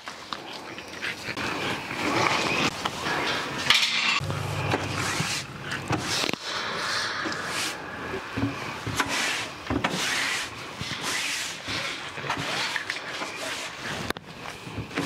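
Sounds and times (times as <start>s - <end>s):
broom scraping floor: 1.6s - 15.0s.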